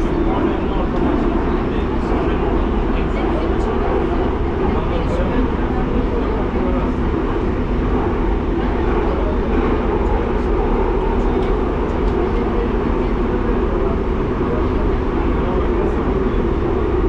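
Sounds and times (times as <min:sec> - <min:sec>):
metro train rolling: 0:00.0 - 0:17.0.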